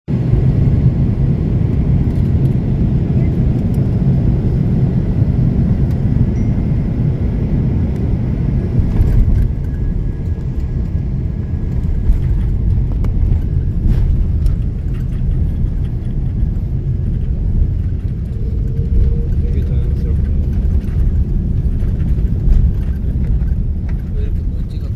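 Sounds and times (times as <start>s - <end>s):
aircraft engines rumbling: 0.1s - 24.9s.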